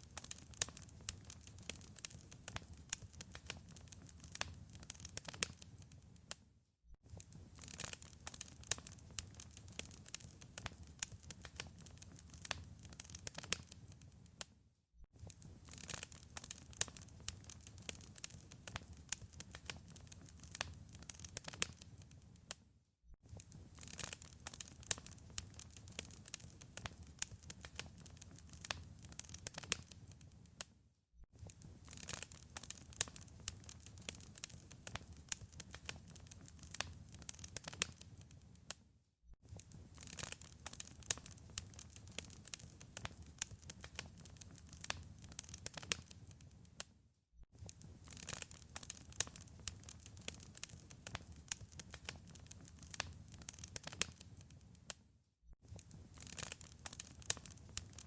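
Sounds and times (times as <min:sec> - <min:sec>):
wood fire crackling: 0:00.0 - 0:06.4, 0:07.1 - 0:14.4, 0:15.2 - 0:22.6, 0:23.3 - 0:30.7, 0:31.4 - 0:38.7, 0:39.5 - 0:46.9, 0:47.6 - 0:54.9, 0:55.6 - 0:58.0.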